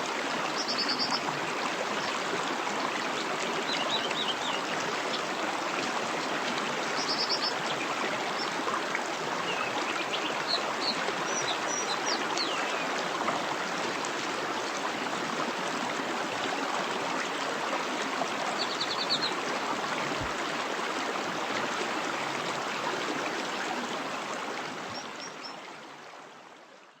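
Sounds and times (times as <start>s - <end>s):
stream rushing over rocks: 0.0s - 26.1s.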